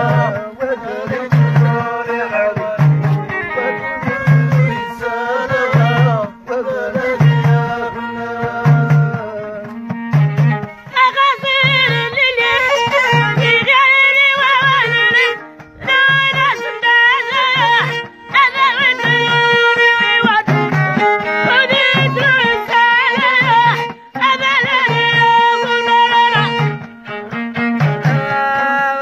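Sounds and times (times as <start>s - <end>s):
frame drum beat: 0.0s - 28.4s
lute melody: 0.0s - 29.0s
person singing: 0.0s - 29.0s
violin melody: 0.0s - 29.0s.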